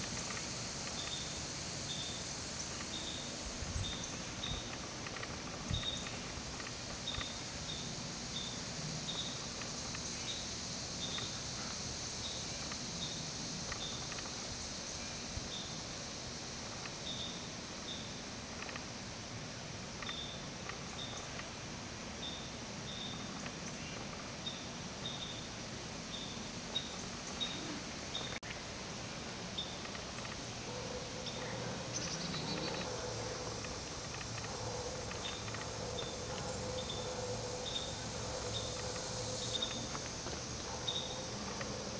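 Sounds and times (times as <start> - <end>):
insect chorus hiss: 0.0 - 41.9.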